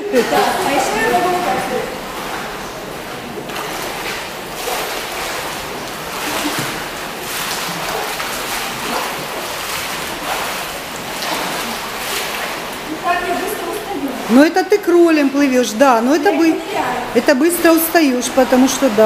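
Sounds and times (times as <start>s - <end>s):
arms splashing water: 0.0s - 19.0s
churning water wash: 0.0s - 19.0s.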